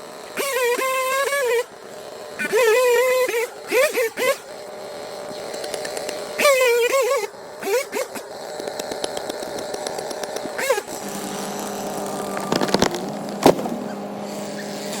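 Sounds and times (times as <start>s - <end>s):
chainsaw engine running: 0.0s - 15.0s.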